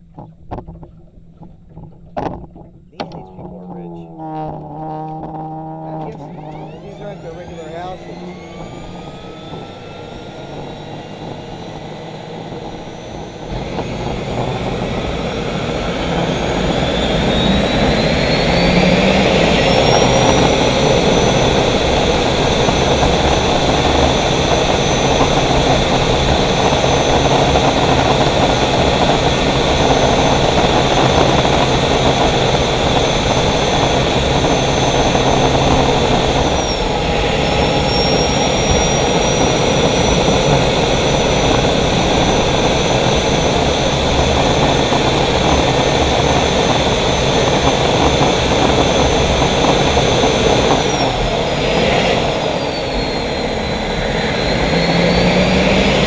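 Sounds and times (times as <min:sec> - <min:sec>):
gas turbine whine: 0:00.0 - 0:56.0.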